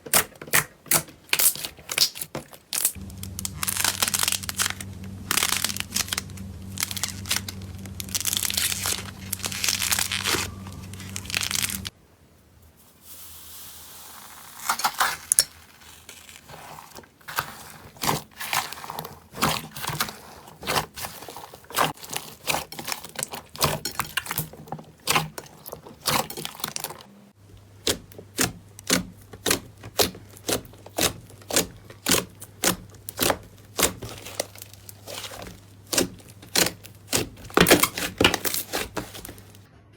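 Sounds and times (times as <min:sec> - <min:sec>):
slime crackling and popping: 0:00.1 - 0:11.9, 0:14.5 - 0:39.7.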